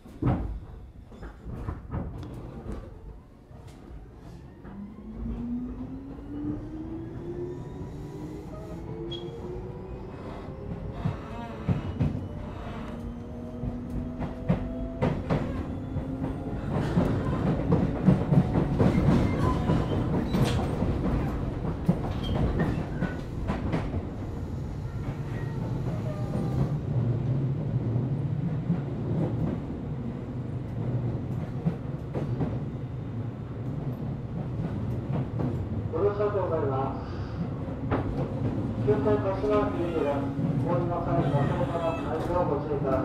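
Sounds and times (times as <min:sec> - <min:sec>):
train wheels rumbling: 0:00.0 - 0:43.0.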